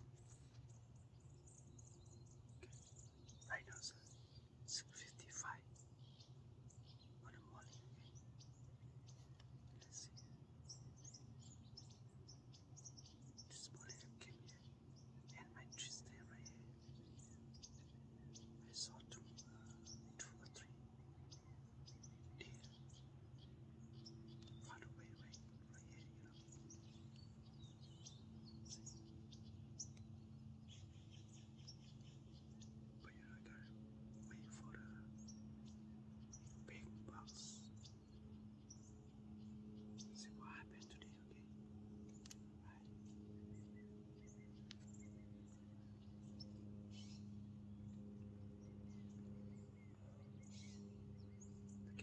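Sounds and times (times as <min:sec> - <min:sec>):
faint bird chirps: 0:00.0 - 0:52.0
steady low hum: 0:00.0 - 0:52.0.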